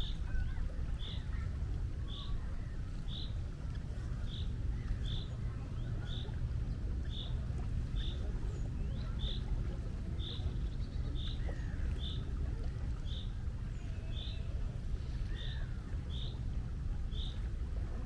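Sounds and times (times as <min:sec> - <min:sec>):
faint gliding bird calls: 0:00.0 - 0:18.0
steady low rumble: 0:00.0 - 0:18.0.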